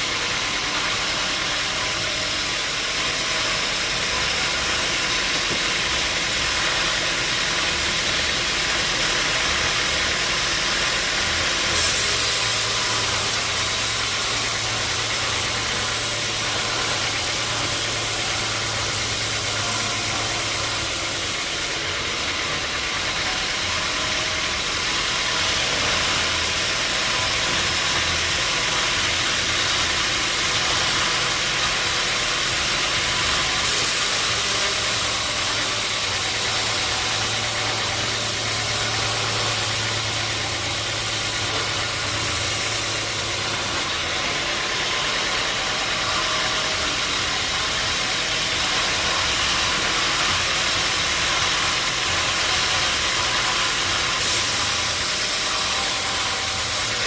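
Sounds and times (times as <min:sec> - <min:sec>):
machinery hissing: 0:00.0 - 0:57.0
sawmill motor running: 0:00.0 - 0:57.0.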